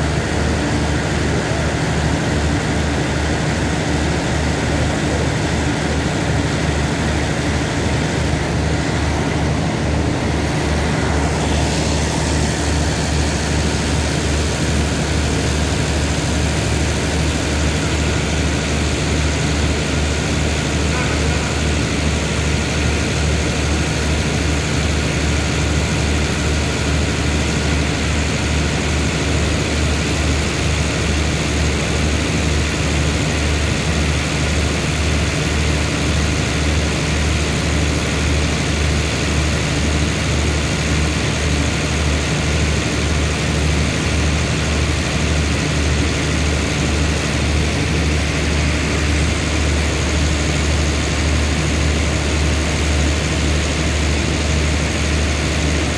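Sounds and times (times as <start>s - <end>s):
diesel train engine idling: 0.0s - 55.9s.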